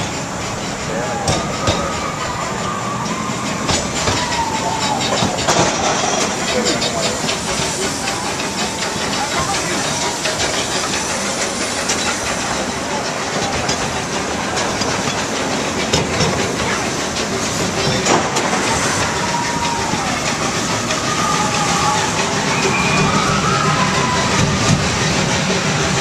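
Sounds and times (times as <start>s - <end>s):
sharp track clacks: 0.0s - 26.0s
train rumbling on track: 0.0s - 26.0s.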